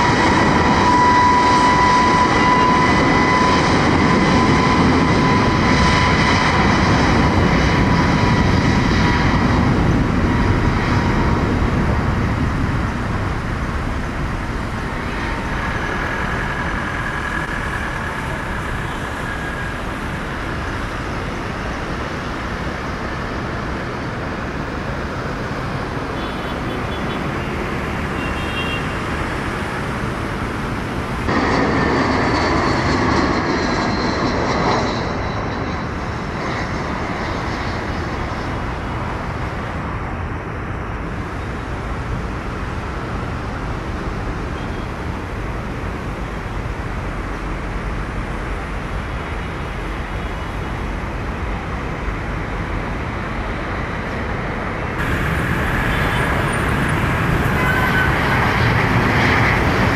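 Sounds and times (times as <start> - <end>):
jet engine rushing: 0.0 - 43.3, 45.2 - 59.9.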